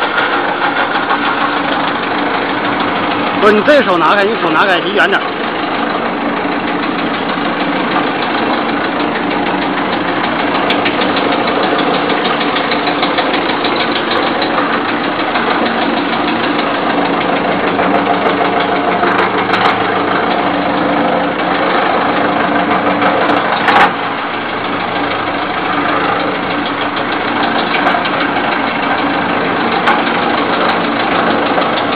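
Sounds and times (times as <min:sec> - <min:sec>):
wood shaving machine running: 0:00.0 - 0:31.9.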